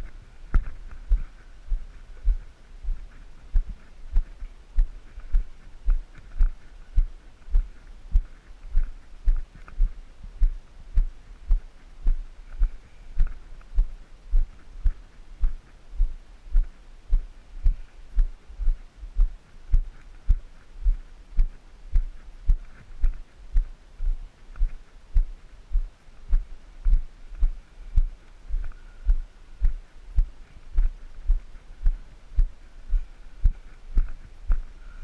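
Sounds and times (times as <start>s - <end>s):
footsteps as dull thumps: 0.0s - 34.7s.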